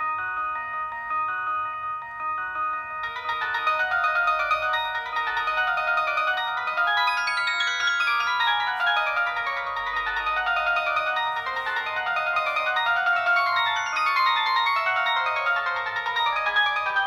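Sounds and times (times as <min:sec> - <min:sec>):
polyphonic phone ringtone: 0:00.0 - 0:17.0.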